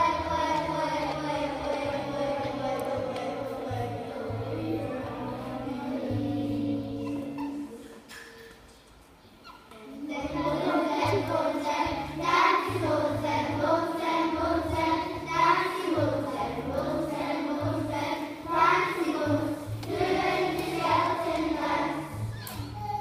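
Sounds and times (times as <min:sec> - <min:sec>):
children singing: 0:00.0 - 0:08.1, 0:09.9 - 0:23.0.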